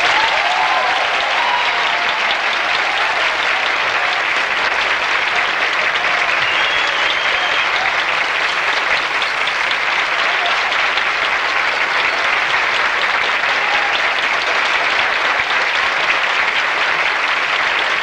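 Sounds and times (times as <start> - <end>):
audience applauding: 0.0 - 18.0
audience cheering: 0.0 - 18.0.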